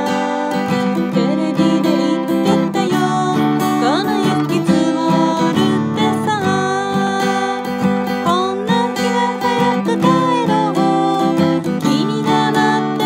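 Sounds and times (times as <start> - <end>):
acoustic guitar strumming: 0.0 - 13.0
woman singing: 0.0 - 13.0.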